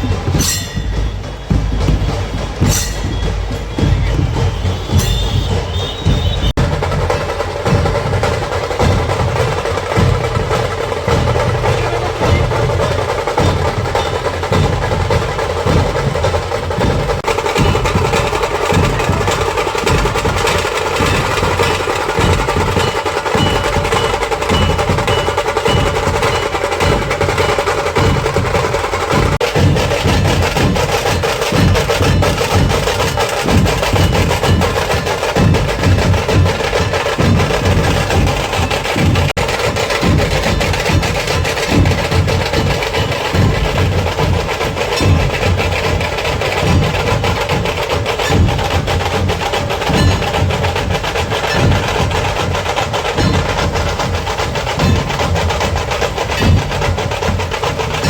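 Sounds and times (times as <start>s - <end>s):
drum troupe drumming: 0.0s - 58.0s
heavy bass drum beats: 0.0s - 58.0s
rattling drum roll: 0.0s - 58.0s.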